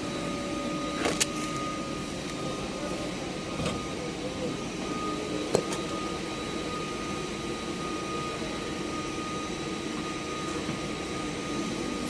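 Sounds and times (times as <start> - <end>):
constant high whine: 0.0 - 12.0
steady mechanical drone: 0.0 - 12.0.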